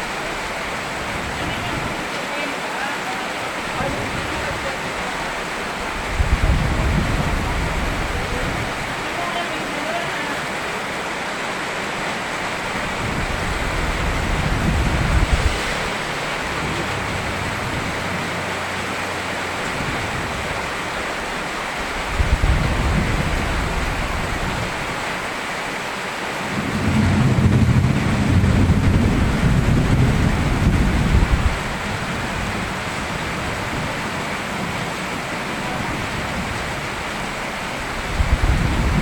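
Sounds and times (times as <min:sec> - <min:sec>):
steady rain: 0:00.0 - 0:39.0
thunder rumbling: 0:03.5 - 0:09.4, 0:12.4 - 0:25.3, 0:26.5 - 0:39.0.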